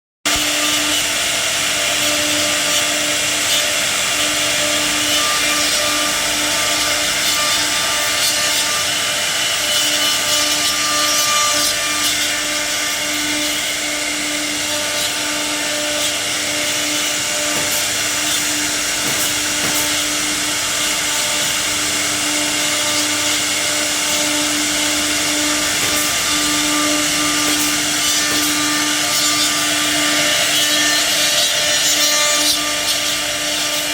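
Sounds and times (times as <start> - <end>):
router cutting wood: 0.3 - 33.9.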